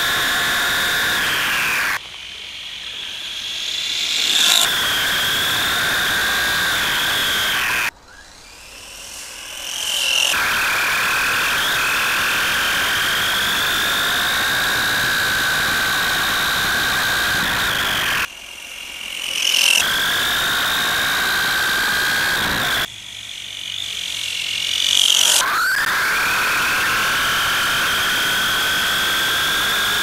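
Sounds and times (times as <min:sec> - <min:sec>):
rc nitro engine high-pitched whine: 0:00.0 - 0:30.0.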